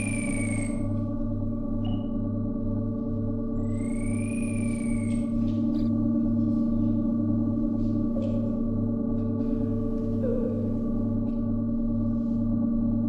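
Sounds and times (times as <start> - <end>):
low pulsing throb: 0.0 - 13.0
steady electronic hum: 0.0 - 13.0.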